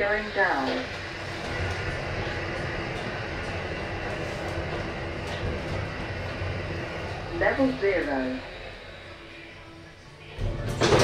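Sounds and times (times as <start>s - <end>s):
lift running hum and rumble: 0.0s - 11.0s.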